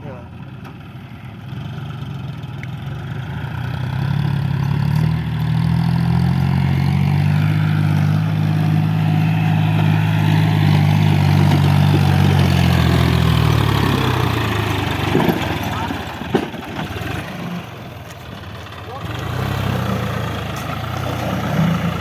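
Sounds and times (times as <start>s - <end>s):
diesel engine revving: 0.0s - 22.0s.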